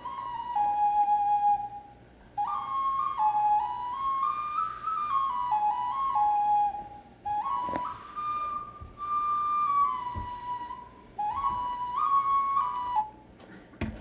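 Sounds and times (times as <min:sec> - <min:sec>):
clay wind instrument melody: 0:00.0 - 0:13.4.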